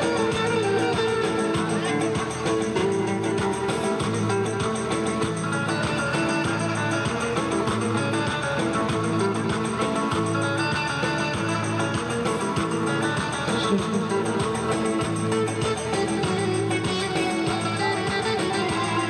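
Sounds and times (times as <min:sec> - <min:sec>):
strummed guitar music with beat: 0:00.0 - 0:19.0.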